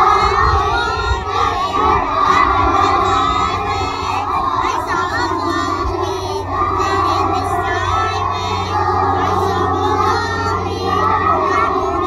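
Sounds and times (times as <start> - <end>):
children singing together: 0.0 - 12.0
music playing: 0.0 - 12.0.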